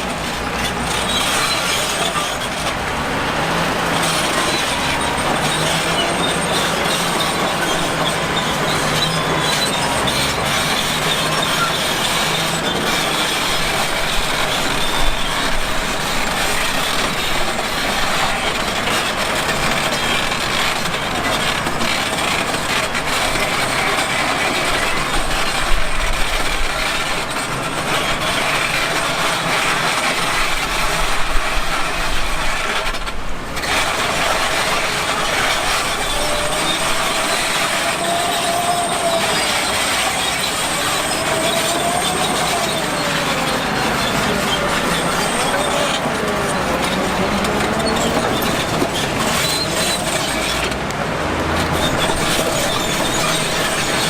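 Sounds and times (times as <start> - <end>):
diesel engine clattering and rumbling: 0.0 - 54.0.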